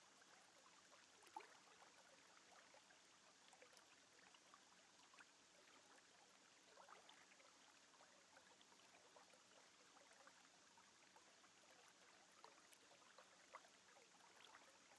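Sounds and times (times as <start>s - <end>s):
faint steady hiss: 0.0s - 14.9s.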